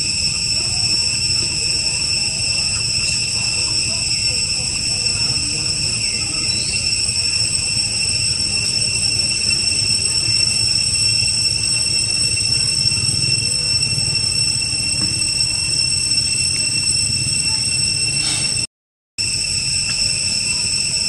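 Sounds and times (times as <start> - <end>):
insects buzzing: 0.0 - 18.6.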